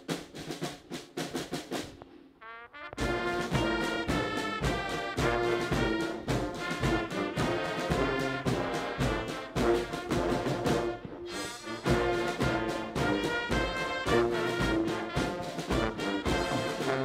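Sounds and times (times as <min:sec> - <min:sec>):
steady drum beat: 0:00.0 - 0:02.2, 0:02.9 - 0:17.0
brass instruments playing: 0:02.4 - 0:17.0.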